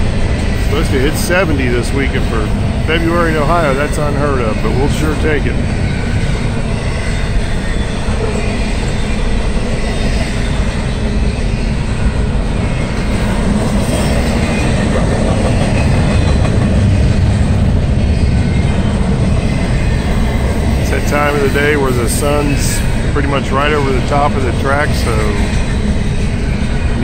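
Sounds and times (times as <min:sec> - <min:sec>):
steel train wheels on rails: 0:00.0 - 0:27.0.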